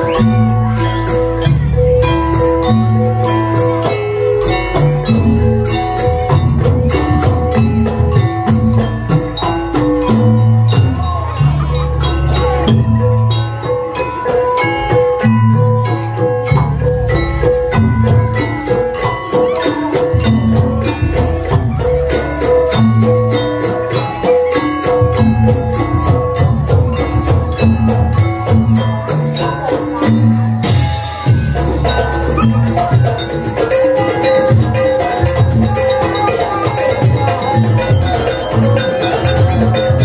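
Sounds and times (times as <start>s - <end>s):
drums beating steady rhythm: 0.0s - 40.0s
ringing metal percussion: 0.0s - 40.0s.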